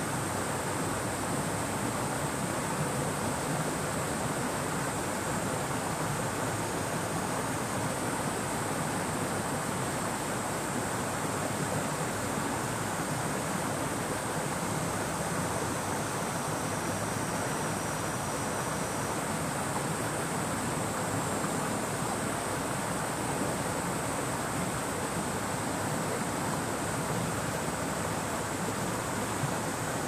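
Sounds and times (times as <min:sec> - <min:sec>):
cicadas buzzing: 0:00.0 - 0:30.0
river flowing: 0:00.0 - 0:30.0.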